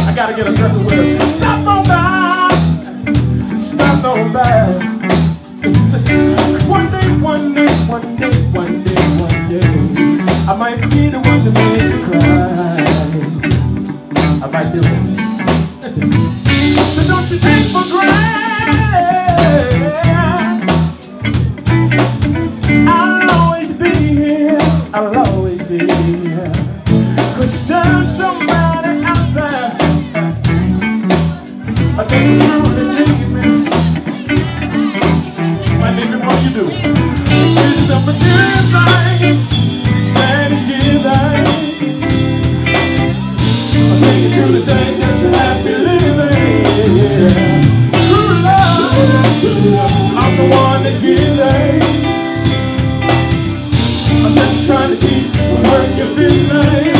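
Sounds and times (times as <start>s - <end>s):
bass guitar: 0.0s - 56.9s
drum kit: 0.0s - 56.9s
electric guitar lines: 0.0s - 56.9s.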